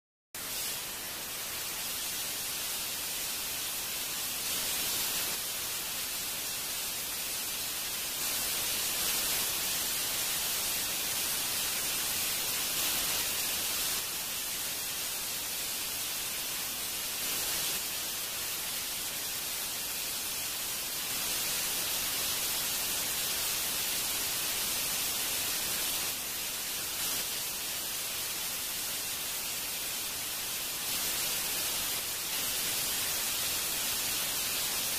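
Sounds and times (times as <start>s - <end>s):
steady static hiss: 0.4s - 34.9s.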